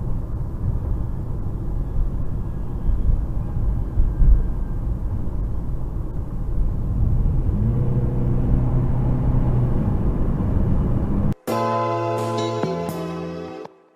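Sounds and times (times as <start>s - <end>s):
car driving road noise: 0.0s - 11.4s
low engine hum: 0.0s - 11.4s.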